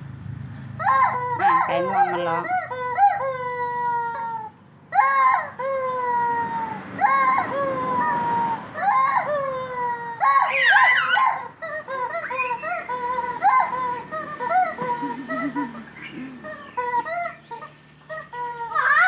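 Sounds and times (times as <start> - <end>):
rubber chicken toy squawking: 0.8 - 19.0.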